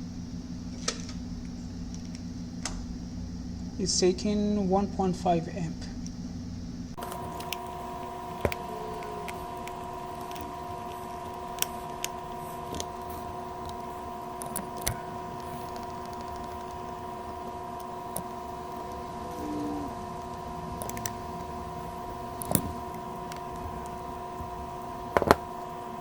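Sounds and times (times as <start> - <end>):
high-pitched electrical hum: 0.0 - 26.0.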